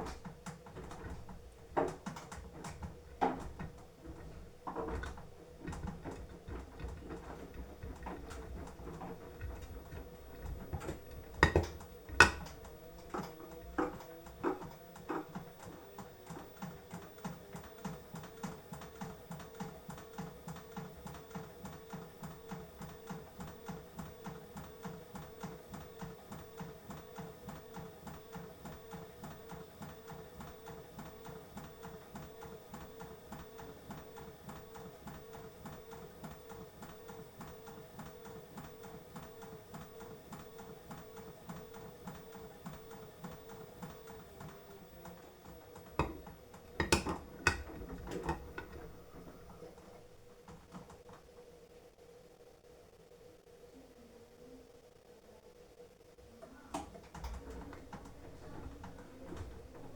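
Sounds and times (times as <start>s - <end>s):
washing machine drum tumbling: 0.0s - 51.1s, 56.6s - 59.9s.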